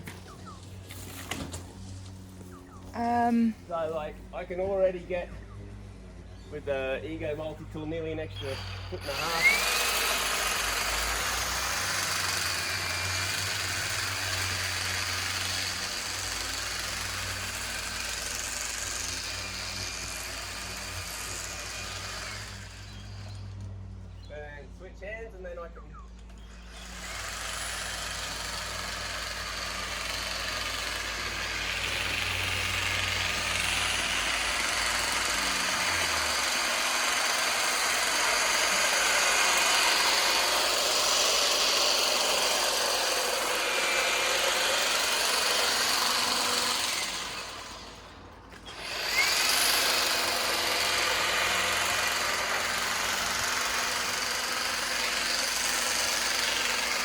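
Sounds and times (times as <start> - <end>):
hedge trimmer cutting hedge: 0.0 - 24.1, 26.2 - 57.0.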